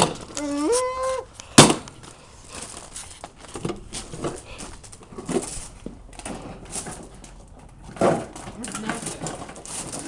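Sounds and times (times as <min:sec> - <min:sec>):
faint clattering and knocks: 0:01.8 - 0:10.0.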